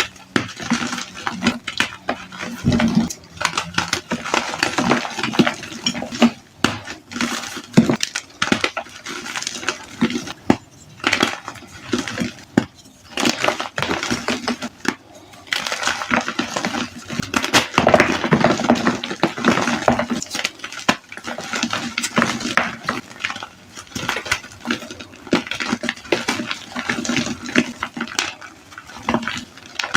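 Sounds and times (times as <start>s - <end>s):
chalk being crushed: 0.0s - 29.9s.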